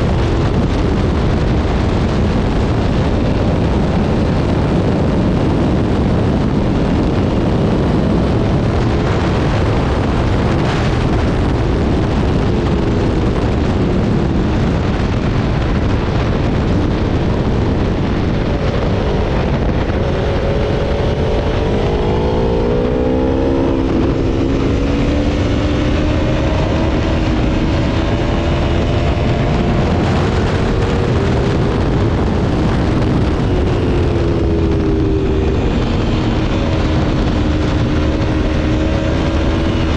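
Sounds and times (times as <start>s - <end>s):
loud rush of noise: 0.0s - 39.9s
motorcycle engine revving: 0.0s - 39.9s.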